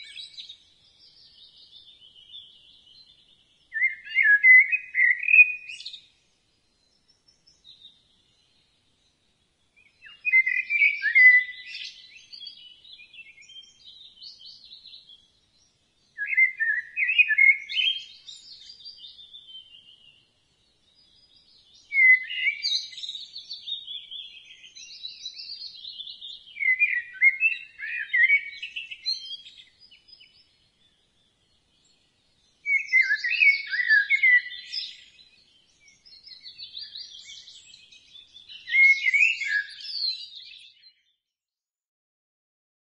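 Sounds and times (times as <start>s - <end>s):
blackbird singing: 0.0s - 9.2s, 9.8s - 41.2s.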